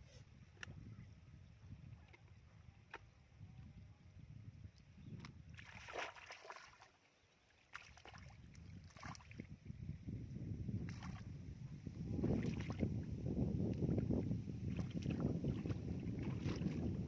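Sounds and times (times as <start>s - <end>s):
wind rumble on microphone: 0.0s - 6.3s, 8.0s - 17.0s
splashing in shallow muddy water: 0.4s - 10.0s, 10.6s - 17.0s.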